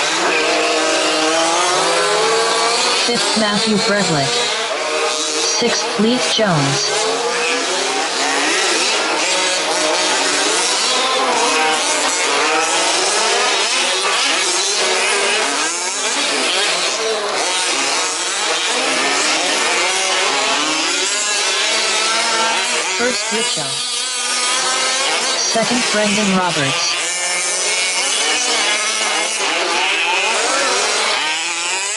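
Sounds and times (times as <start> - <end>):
small two-stroke engines racing: 0.0 - 31.9.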